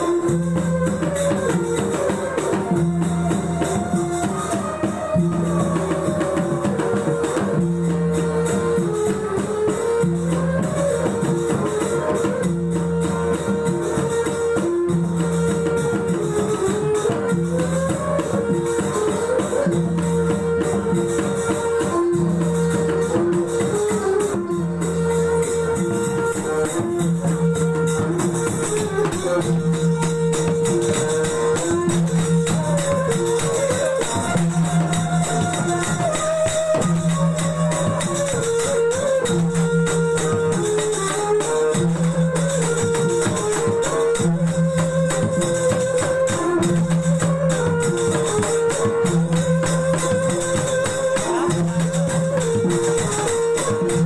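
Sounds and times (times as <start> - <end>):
gliding violin melody: 0.0 - 54.0
jingling percussion: 0.0 - 54.0
lute playing: 0.0 - 54.0.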